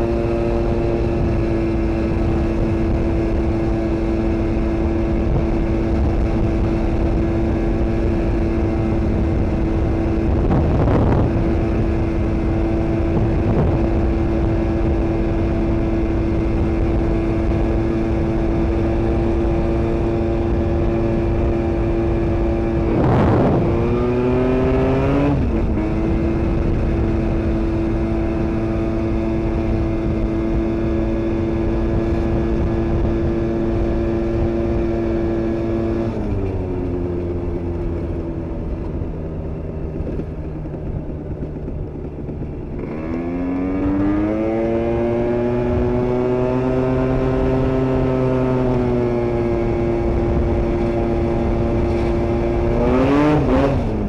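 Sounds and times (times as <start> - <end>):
scooter engine while riding: 0.0 - 54.0.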